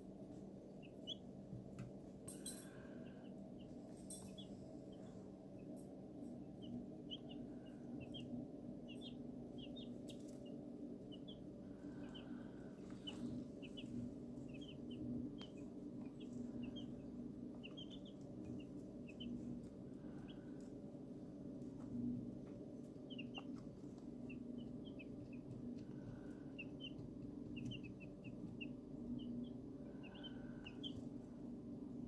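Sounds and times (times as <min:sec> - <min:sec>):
baby chicks peeping: 0:00.0 - 0:32.0
steady low hum: 0:00.0 - 0:32.0.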